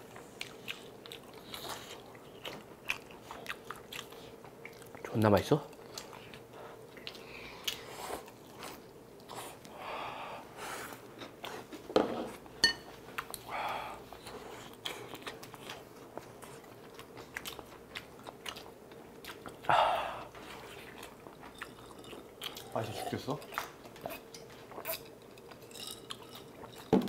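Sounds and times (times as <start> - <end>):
chewing and crunching: 0.0 - 9.7, 13.0 - 13.5, 14.1 - 27.0.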